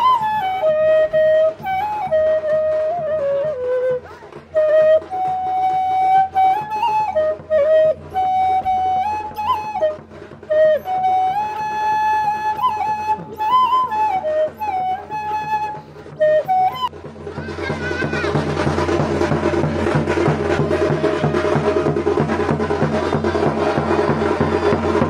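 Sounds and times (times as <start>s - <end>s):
solo flute melody: 0.0s - 25.0s.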